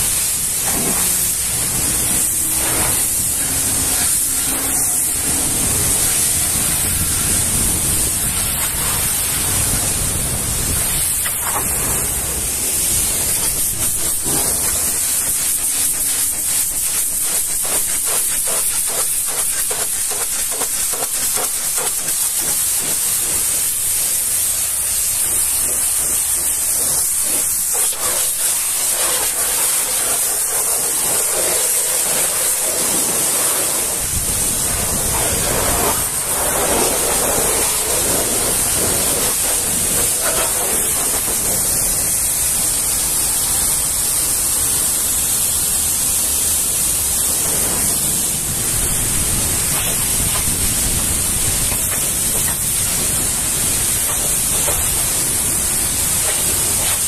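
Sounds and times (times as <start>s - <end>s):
pressure washer spraying water: 0.0s - 57.0s.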